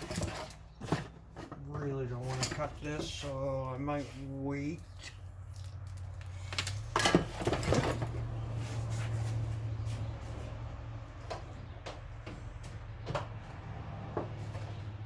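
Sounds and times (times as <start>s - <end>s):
rustles and knocks of handling: 0.0s - 15.0s.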